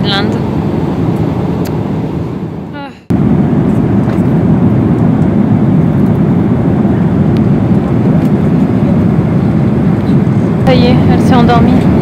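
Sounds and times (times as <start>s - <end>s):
airliner cabin engine rush: 0.0s - 12.0s.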